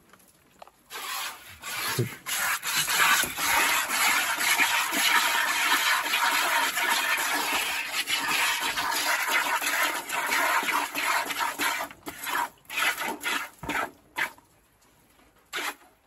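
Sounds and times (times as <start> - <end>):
milk squirting into plastic bucket: 0.6 - 14.4, 15.5 - 15.9.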